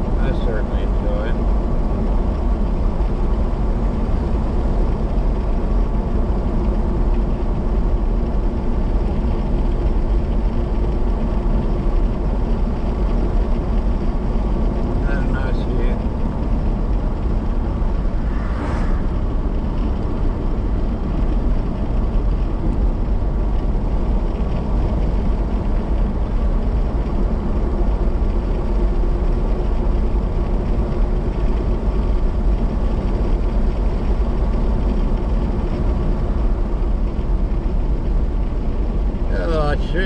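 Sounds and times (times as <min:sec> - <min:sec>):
car road and engine noise: 0:00.0 - 0:40.0.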